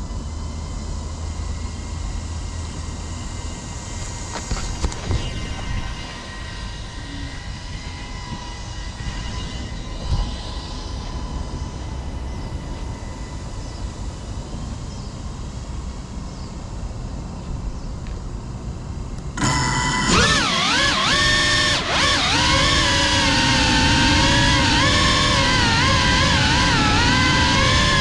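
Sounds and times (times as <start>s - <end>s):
quadcopter propellers whining: 0.0s - 14.6s, 19.2s - 28.0s.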